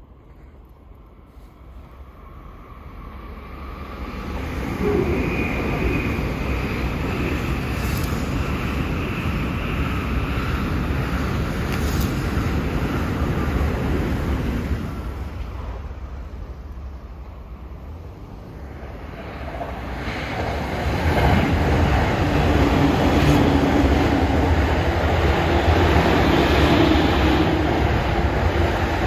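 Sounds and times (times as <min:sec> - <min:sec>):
train passing with rushing rumble: 0:00.0 - 0:29.0.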